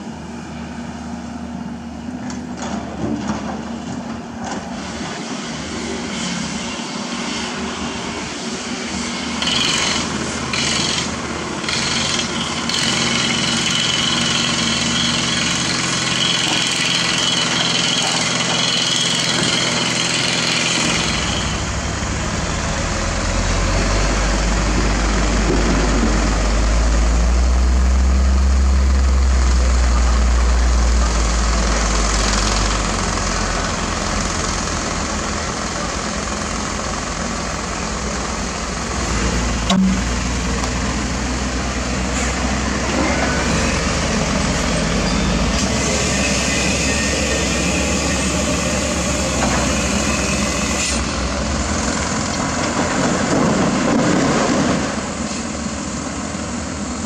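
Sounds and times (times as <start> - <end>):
excavator diesel engine running: 6.9 - 57.0
dump truck diesel engine rumbling: 9.1 - 57.0.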